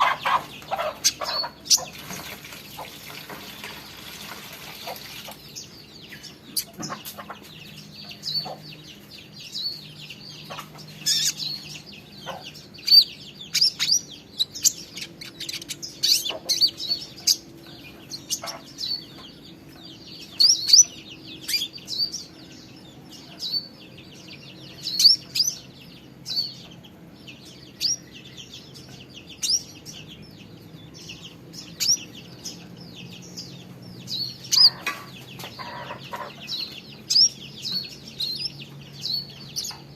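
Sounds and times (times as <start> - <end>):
young songbird chirping: 0.0 - 39.9.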